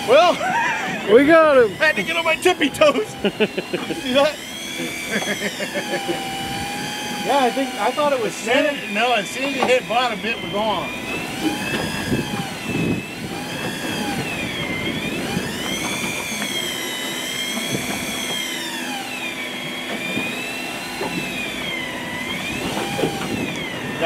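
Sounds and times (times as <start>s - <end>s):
electric fishing reel motor whine: 0.0s - 24.0s.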